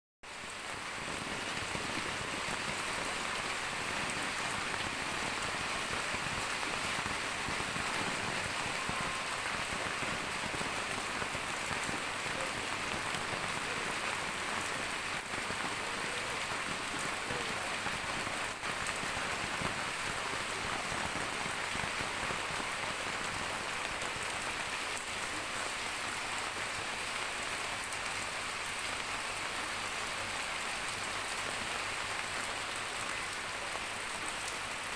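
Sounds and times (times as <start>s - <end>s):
rain pattering: 0.3s - 34.9s.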